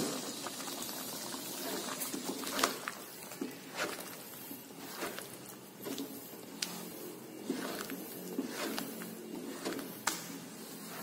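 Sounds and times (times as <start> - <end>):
spatula scraping a wok: 1.4 - 11.0.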